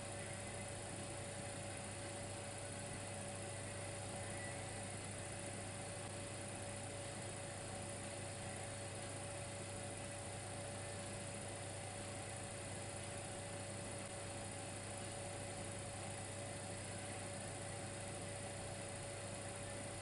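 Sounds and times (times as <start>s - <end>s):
electric fireplace hum: 0.0s - 20.0s
thin constant whine: 0.0s - 20.0s.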